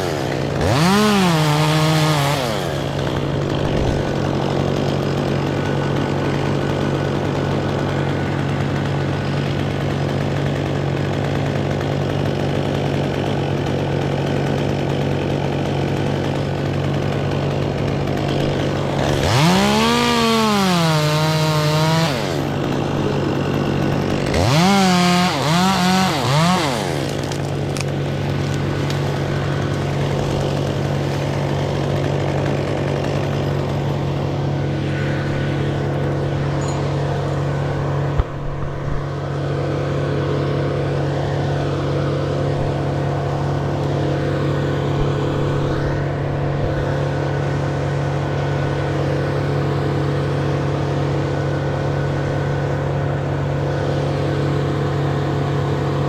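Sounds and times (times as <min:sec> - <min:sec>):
chainsaw revving: 0:00.0 - 0:56.0
steady engine drone: 0:00.0 - 0:56.0.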